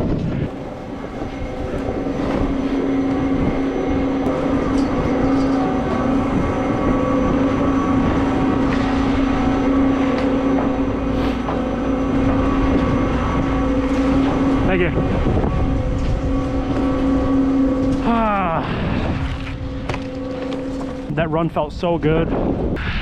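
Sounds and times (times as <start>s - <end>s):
ski lift machinery hum: 0.0s - 23.0s.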